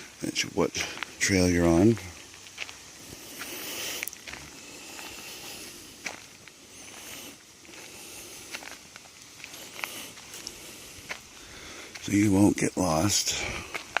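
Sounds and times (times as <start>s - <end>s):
footsteps crunching on gravel: 0.0s - 14.0s
steady hiss: 0.0s - 14.0s.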